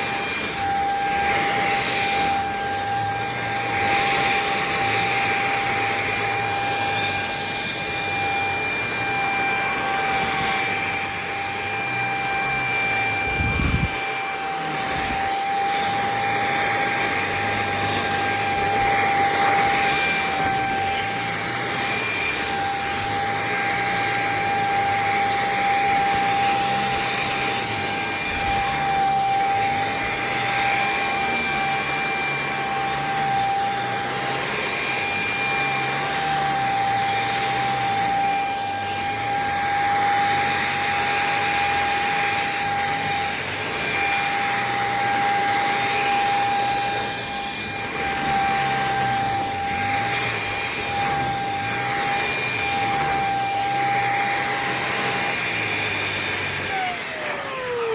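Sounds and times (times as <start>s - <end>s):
vacuum cleaner motor whine: 0.0s - 57.9s.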